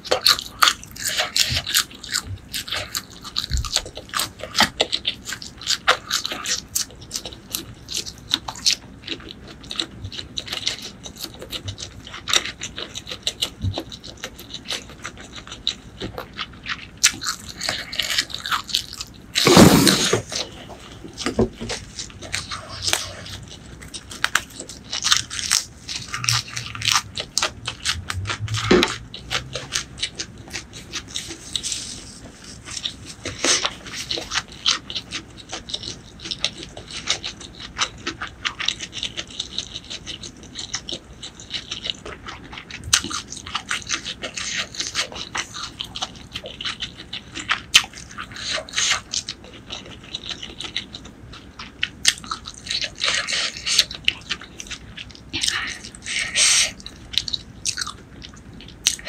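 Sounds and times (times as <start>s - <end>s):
person chewing crunchy leaves: 0.0s - 59.0s.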